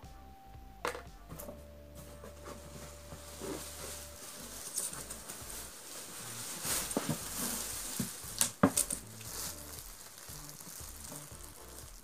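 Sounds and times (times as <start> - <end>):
plastic packaging rustling: 2.0 - 12.0.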